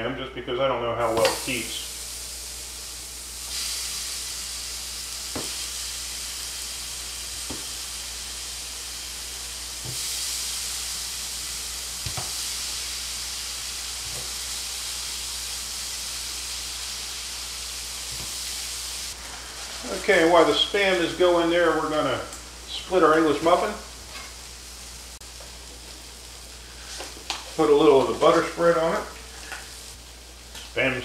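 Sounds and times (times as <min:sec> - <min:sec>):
meat sizzling on a griddle: 0:01.2 - 0:31.0.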